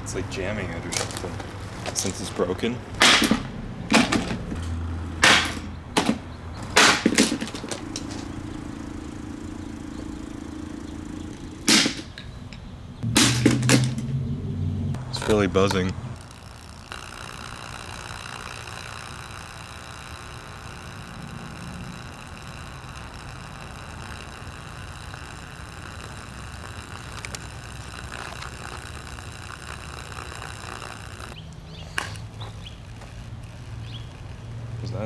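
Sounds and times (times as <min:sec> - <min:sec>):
jammed fan motor buzzing: 0:00.0 - 0:35.0.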